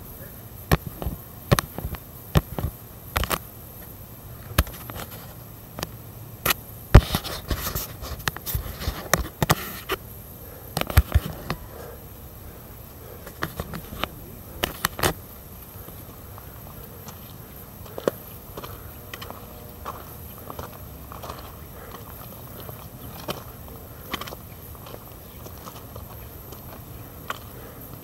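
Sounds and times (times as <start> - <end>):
footsteps on rocky dirt trail: 0.7 - 10.0, 10.7 - 28.0.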